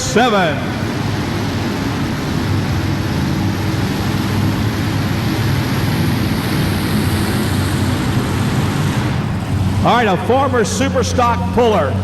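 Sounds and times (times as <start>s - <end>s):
tractor engines running loud: 0.0s - 12.0s.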